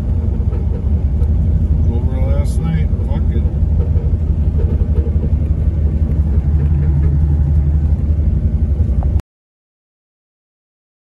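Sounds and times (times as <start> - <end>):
car engine low rumble: 0.0 - 9.2.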